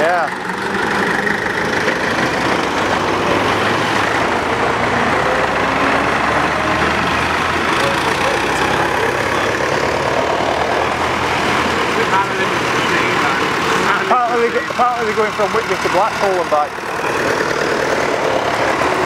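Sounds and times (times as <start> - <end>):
tractor engine running: 0.0 - 19.0
van passing: 0.0 - 19.0.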